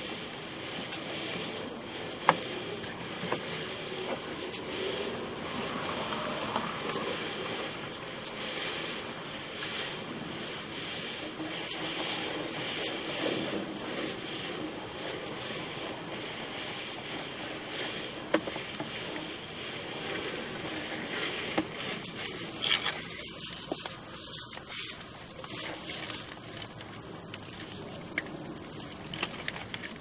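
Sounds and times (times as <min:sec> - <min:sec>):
cable scraping through pipe: 0:00.0 - 0:26.7.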